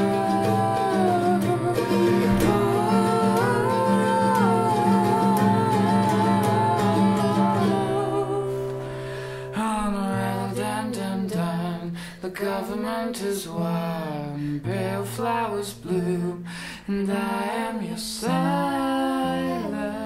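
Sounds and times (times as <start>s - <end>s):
acoustic guitar: 0.0s - 20.0s
man and woman singing: 0.0s - 20.0s.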